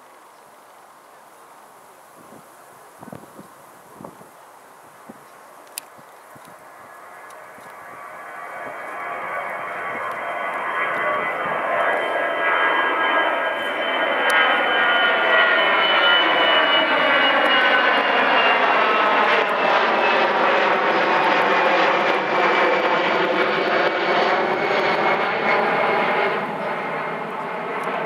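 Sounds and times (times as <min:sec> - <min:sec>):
jet engines passing overhead: 0:02.4 - 0:28.0.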